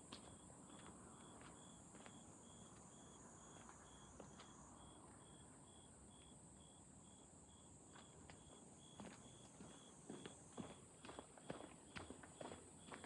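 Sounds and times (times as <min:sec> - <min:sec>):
insect chirping: 0:00.2 - 0:13.0.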